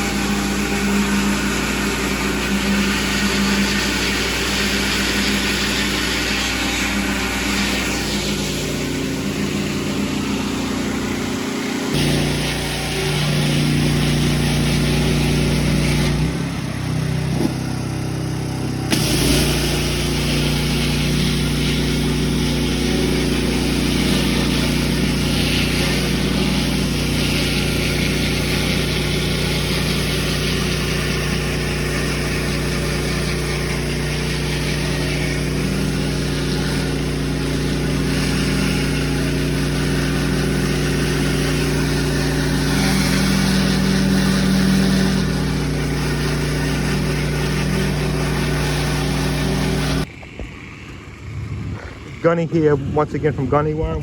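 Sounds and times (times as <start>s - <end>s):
high-pressure spray hissing on concrete: 0.0s - 50.1s
pressure washer engine running: 0.0s - 54.0s.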